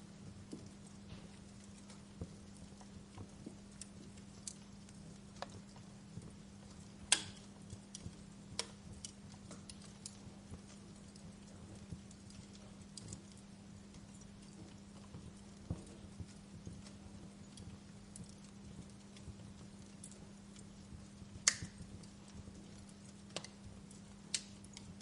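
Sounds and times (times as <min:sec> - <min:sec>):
faint steady hiss: 0:00.0 - 0:25.0
wood fire crackling: 0:00.0 - 0:25.0.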